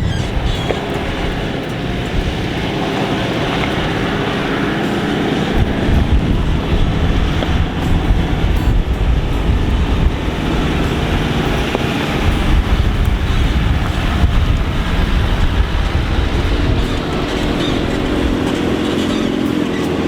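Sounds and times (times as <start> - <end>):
engine and tyres rumbling: 0.0 - 20.0
vehicle rattles: 0.0 - 20.0.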